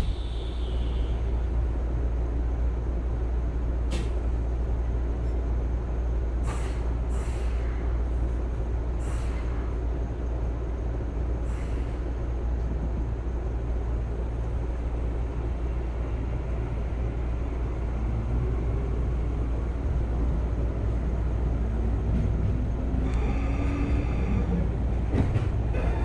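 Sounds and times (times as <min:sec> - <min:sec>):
train low rumble and hum: 0:00.0 - 0:26.0.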